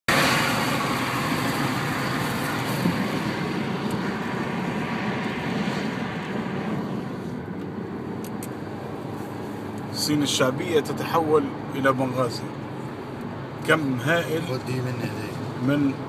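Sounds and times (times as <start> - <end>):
road and wind noise in car: 0.1 - 16.0.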